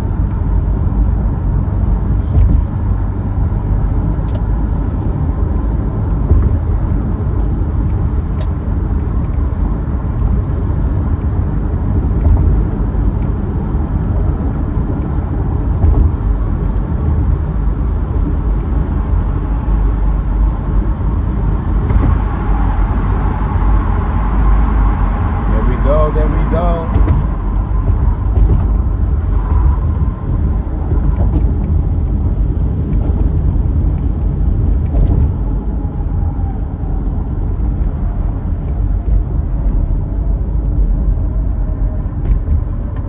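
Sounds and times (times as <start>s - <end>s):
car engine and road rumble: 0.0s - 43.0s.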